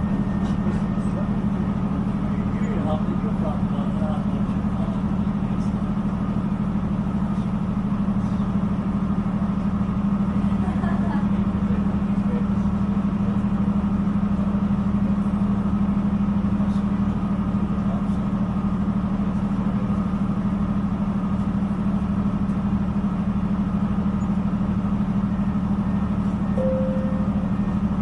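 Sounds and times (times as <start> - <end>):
train running from inside carriage: 0.0 - 28.0.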